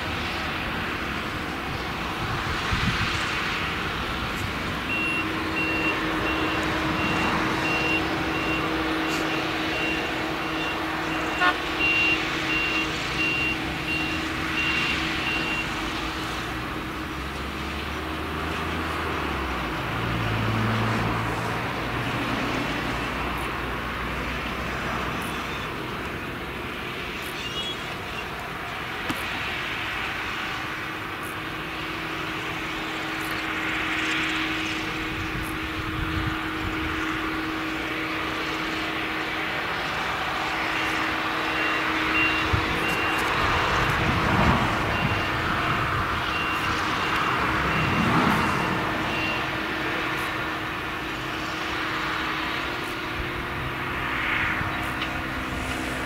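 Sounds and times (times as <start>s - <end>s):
forage harvester engine droning: 0.0s - 56.0s
tractor running: 0.0s - 56.0s.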